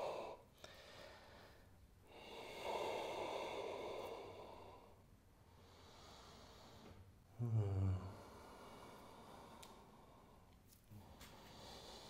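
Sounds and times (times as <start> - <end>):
person breathing deeply: 0.0 - 12.0.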